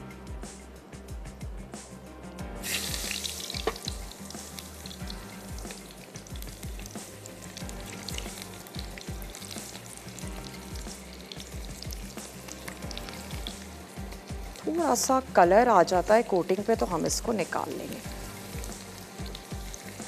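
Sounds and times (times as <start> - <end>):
background music: 0.0 - 20.0
chicken deep-frying in oil: 2.6 - 20.0.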